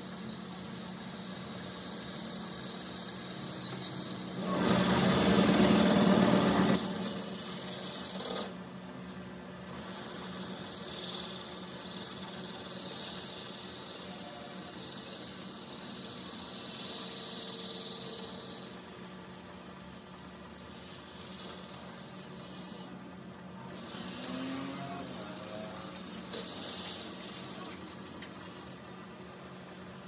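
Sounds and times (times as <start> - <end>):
high-pitched whistling whine: 0.0 - 28.9.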